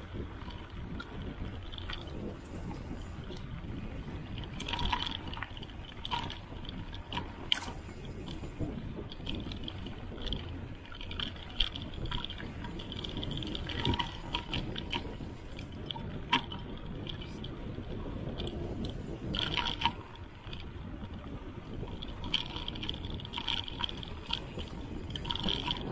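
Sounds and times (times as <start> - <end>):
bike knocking and rattling: 0.0 - 25.9
bike tyres rumbling on dirt: 0.0 - 25.9.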